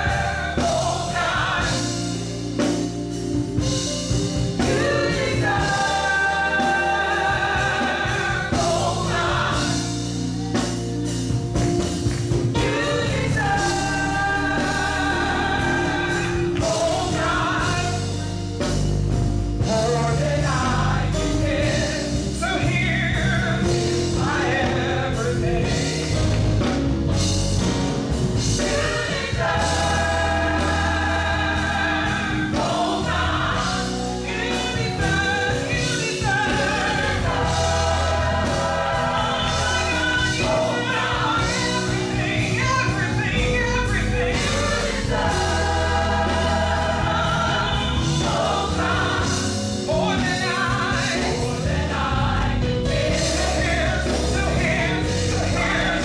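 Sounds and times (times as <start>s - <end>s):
bass: 0.0s - 56.0s
drums: 0.0s - 56.0s
keyboard: 0.0s - 56.0s
vocal group singing gospel: 0.0s - 56.0s.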